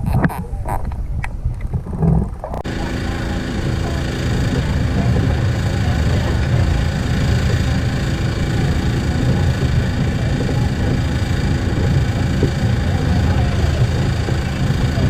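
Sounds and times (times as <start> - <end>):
steady humming tones: 0.0 - 15.0
underwater low rumble: 0.0 - 15.0.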